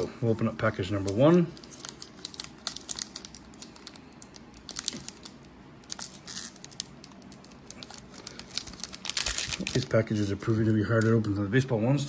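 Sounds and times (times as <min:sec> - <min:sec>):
plastic wrapper crinkling: 0:00.6 - 0:11.5.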